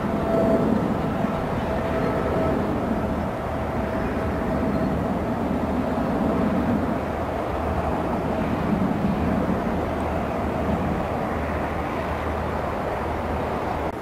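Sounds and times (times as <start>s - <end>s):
jet engines rumbling with whine: 0.0s - 14.0s.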